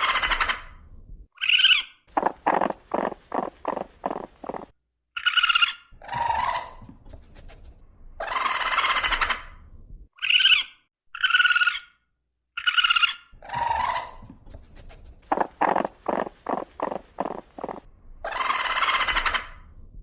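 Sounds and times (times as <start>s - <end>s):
raccoon calls: 0.0s - 0.7s, 1.4s - 7.5s, 8.2s - 9.6s, 10.2s - 12.0s, 12.6s - 19.7s.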